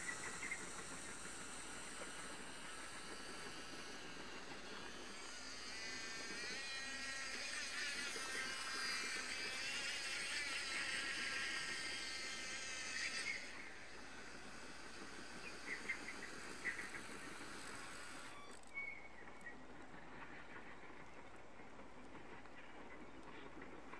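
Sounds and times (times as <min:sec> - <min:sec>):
small electric motor whining: 0:00.0 - 0:21.4.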